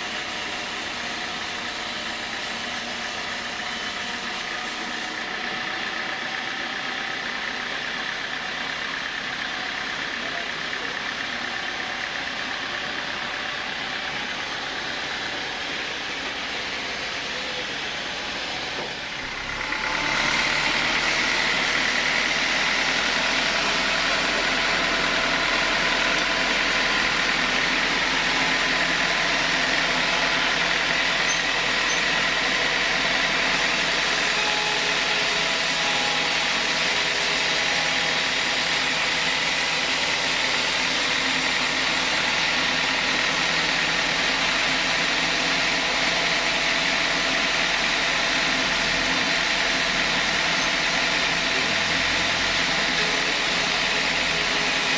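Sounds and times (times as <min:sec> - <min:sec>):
saw machine whining: 0:00.0 - 0:54.9.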